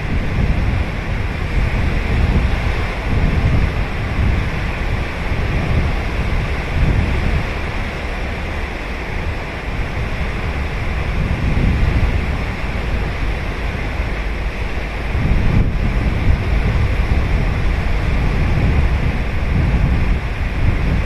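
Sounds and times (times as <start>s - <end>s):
ocean surf breaking: 0.0s - 21.0s
wind rumbling on microphone: 0.0s - 21.0s.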